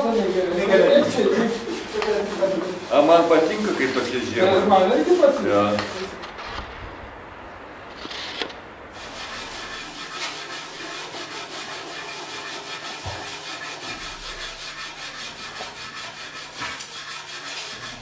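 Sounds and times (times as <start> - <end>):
sanding wood by hand: 0.0 - 6.6, 8.9 - 18.0.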